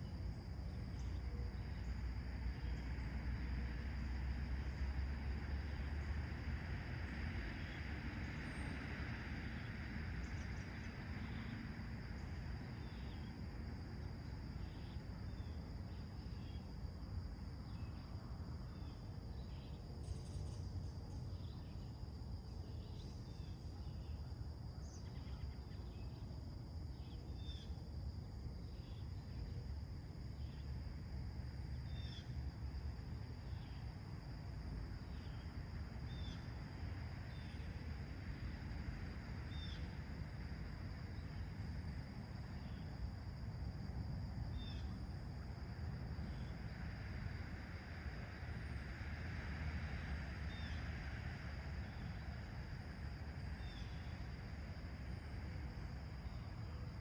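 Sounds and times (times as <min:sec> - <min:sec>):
background hiss: 0:00.0 - 0:57.0
high insect drone: 0:00.0 - 0:57.0.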